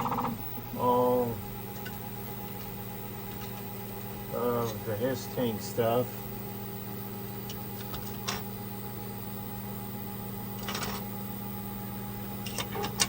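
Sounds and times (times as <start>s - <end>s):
printer low hum: 0.0s - 13.0s.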